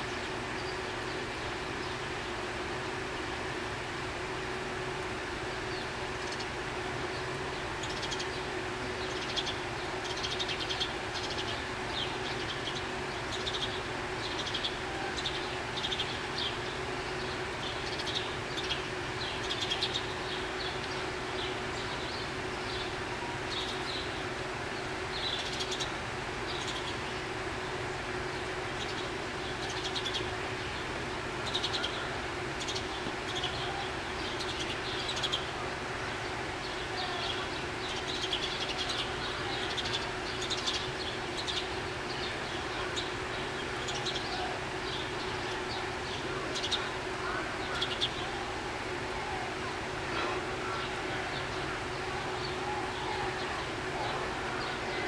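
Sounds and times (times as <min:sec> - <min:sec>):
small birds chirping: 0:05.7 - 0:27.4, 0:28.3 - 0:35.6, 0:36.2 - 0:55.0.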